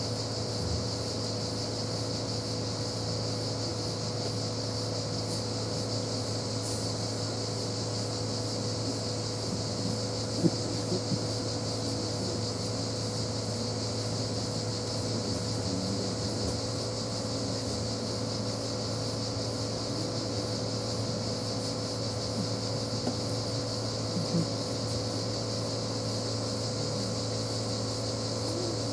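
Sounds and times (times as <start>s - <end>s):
constant high hiss: 0.0s - 28.9s
steady mechanical hum: 0.0s - 28.9s.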